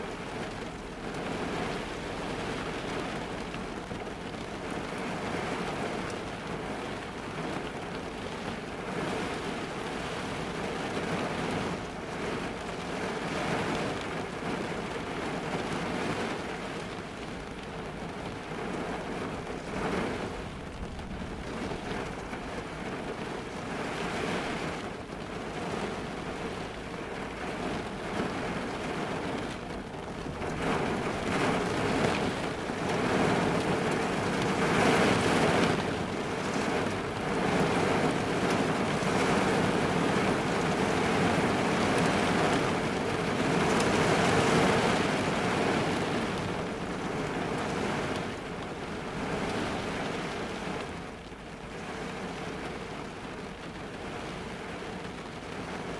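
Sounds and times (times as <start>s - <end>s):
rain drumming on car roof: 0.0s - 55.9s.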